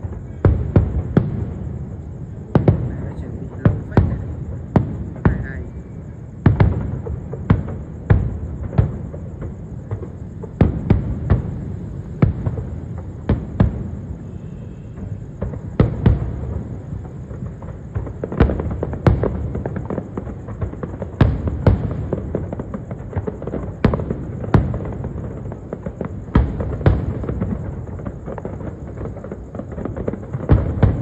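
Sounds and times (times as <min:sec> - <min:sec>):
fireworks bangs: 0:00.0 - 0:31.0
low rumble of explosions: 0:00.0 - 0:31.0.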